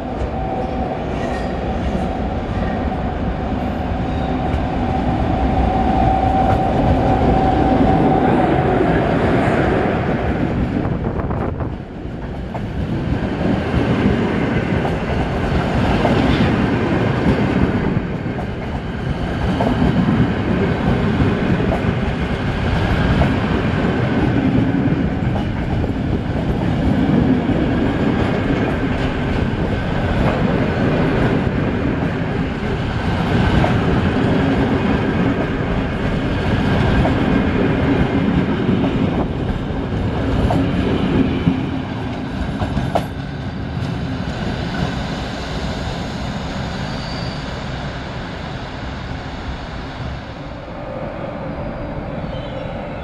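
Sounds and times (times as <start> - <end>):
train coaches rumbling past: 0.0 - 53.0.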